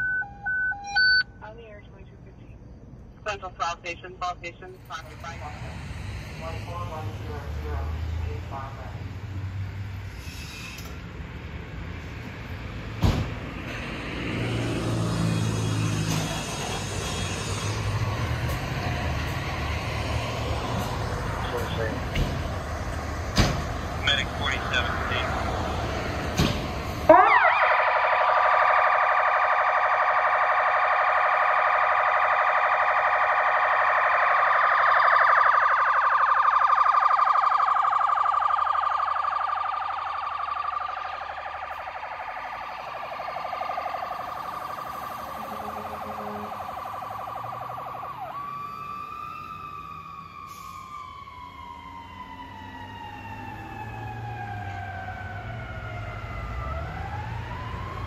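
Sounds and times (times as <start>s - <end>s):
fire engine siren: 0.0s - 1.6s, 4.6s - 58.0s.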